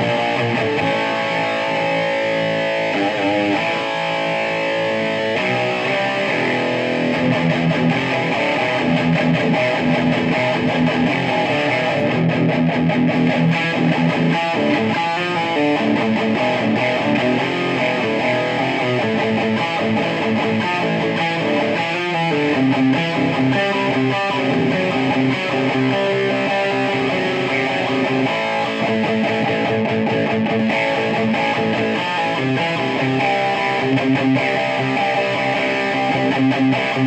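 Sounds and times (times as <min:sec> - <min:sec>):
electric guitar chords: 0:00.0 - 0:37.0.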